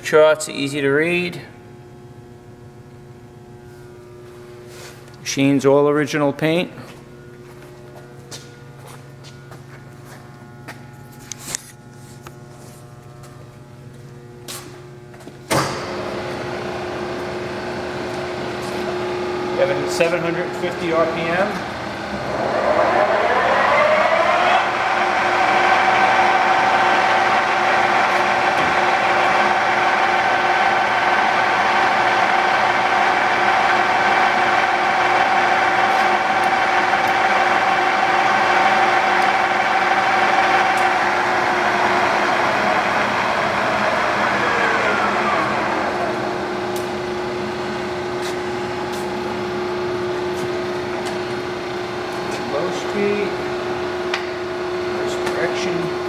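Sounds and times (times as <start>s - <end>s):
lathe gearing whine: 6.5s - 56.0s.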